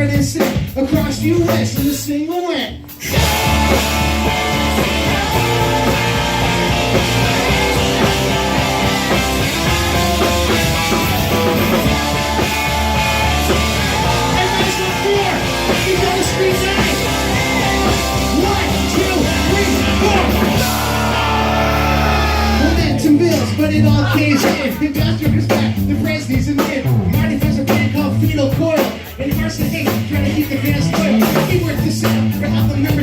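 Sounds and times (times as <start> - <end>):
live punk rock music: 0.0 - 33.0.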